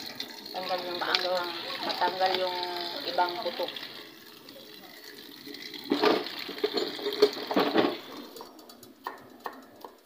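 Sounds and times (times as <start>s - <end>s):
tap water running into colander: 0.0s - 10.0s.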